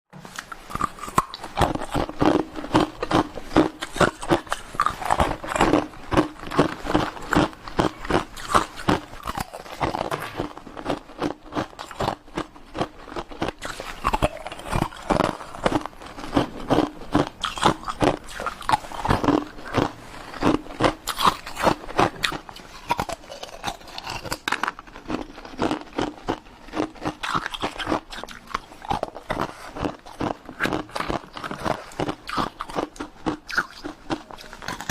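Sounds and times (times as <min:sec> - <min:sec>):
ice cubes crunching when chewed: 0:00.3 - 0:34.9.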